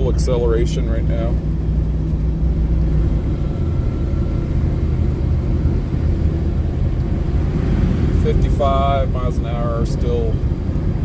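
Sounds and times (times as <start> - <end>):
pickup engine pulling hard: 0.0 - 11.0
road noise: 0.0 - 11.0.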